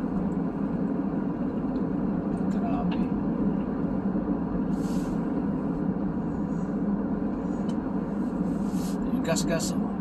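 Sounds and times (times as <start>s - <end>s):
car cabin road and engine noise: 0.0s - 10.0s.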